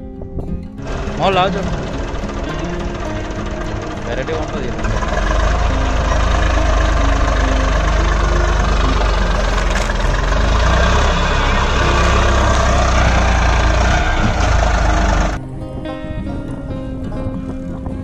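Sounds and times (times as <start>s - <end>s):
music: 0.0s - 13.4s, 14.0s - 18.0s
tractor diesel engine running: 0.8s - 15.4s.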